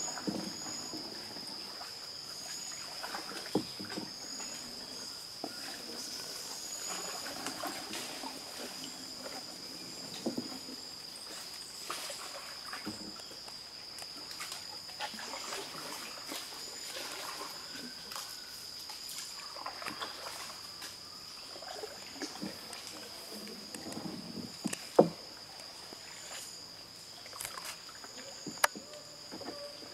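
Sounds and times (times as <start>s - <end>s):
paddle splashes: 0.0s - 13.4s, 14.1s - 26.6s, 27.2s - 29.9s.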